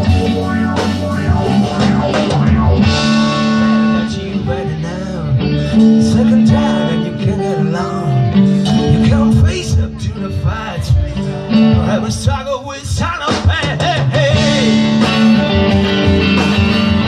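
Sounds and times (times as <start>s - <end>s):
electric guitar with effects: 0.0s - 17.0s
held bass line: 0.0s - 17.0s.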